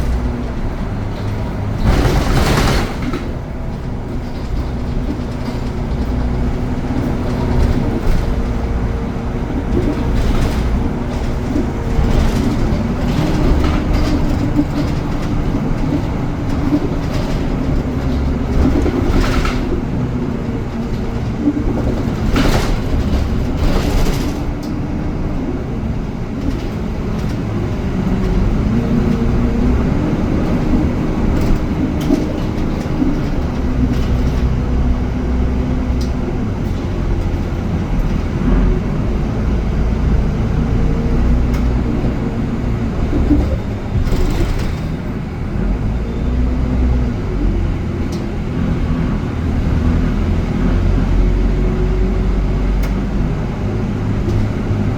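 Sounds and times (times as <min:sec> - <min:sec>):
rattles and clicks: 0:00.0 - 0:46.0, 0:54.0 - 0:54.9
bus low rumble: 0:00.0 - 0:54.9.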